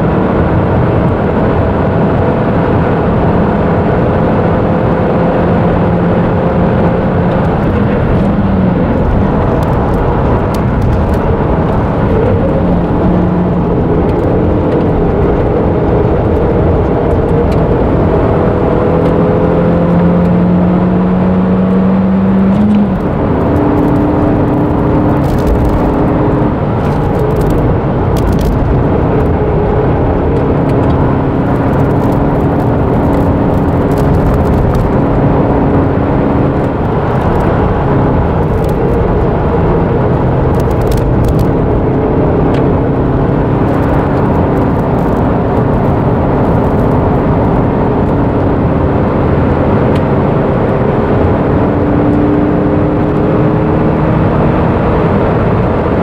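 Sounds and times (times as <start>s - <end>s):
car engine revving hard: 0.1s - 56.0s
gear upshift: 5.7s - 51.3s.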